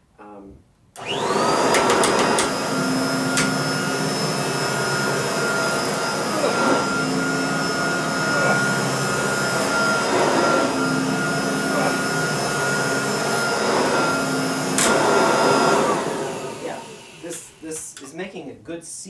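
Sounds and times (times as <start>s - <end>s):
upright vacuum cleaner running: 1.0s - 17.8s.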